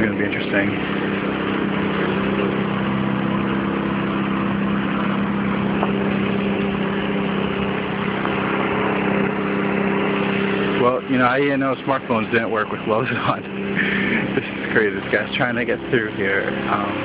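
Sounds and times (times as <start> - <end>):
snowblower engine droning: 0.0 - 17.0.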